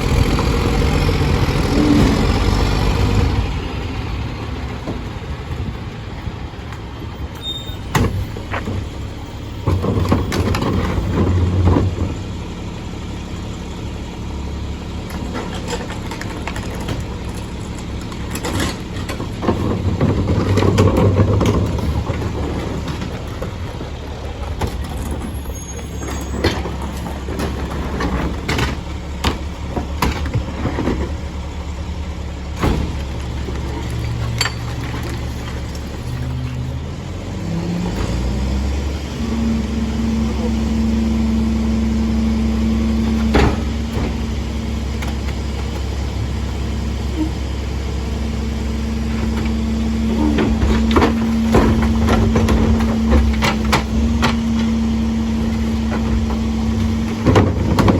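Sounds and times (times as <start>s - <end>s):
garbage truck diesel rumble: 0.0s - 57.9s.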